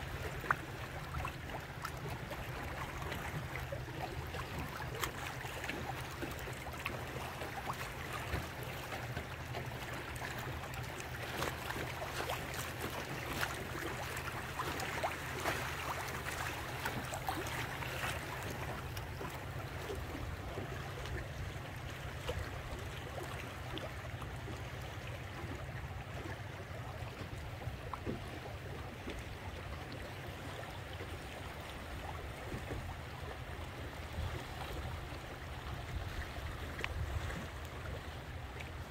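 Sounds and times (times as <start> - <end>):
water splashing against boat hull: 0.0 - 38.9.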